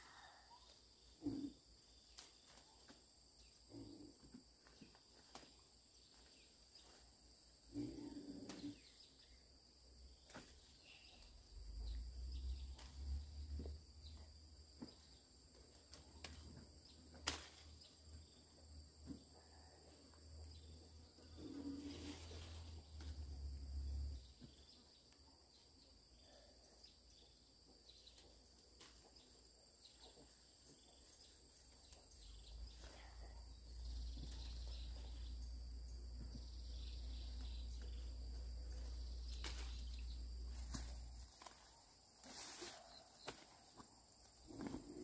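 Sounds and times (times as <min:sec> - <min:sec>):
insect chirring: 0:00.1 - 0:45.0.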